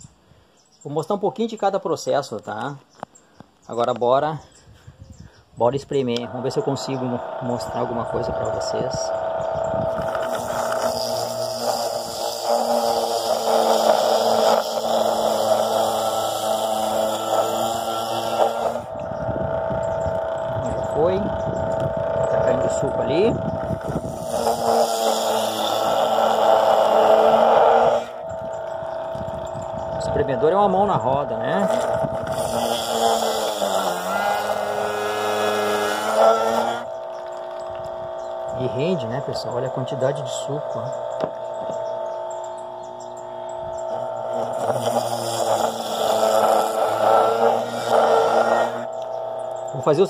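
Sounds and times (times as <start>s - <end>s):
electric juicer motor humming: 6.1s - 50.0s.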